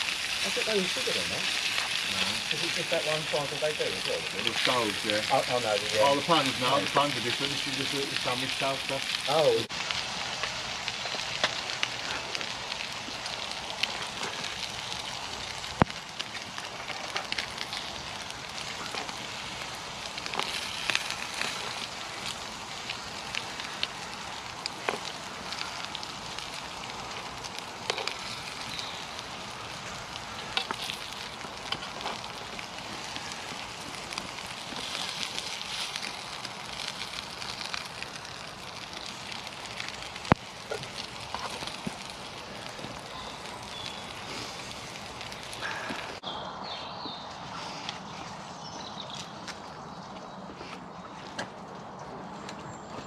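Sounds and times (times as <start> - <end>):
sausages sizzling in a pan: 0.0 - 46.2.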